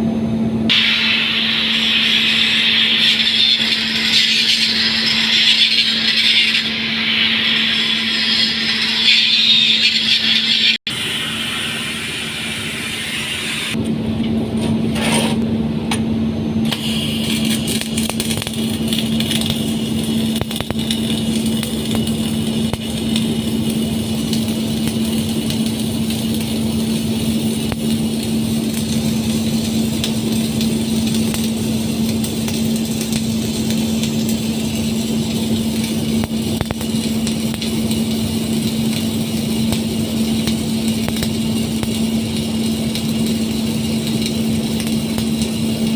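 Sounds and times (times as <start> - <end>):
welding equipment hum: 0.0 - 45.9
arc welding crackle: 0.7 - 13.8, 16.6 - 45.9.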